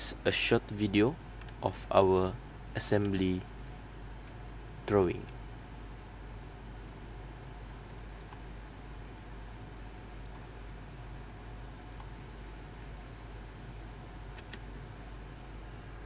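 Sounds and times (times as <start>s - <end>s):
low hum and hiss: 0.0s - 16.0s.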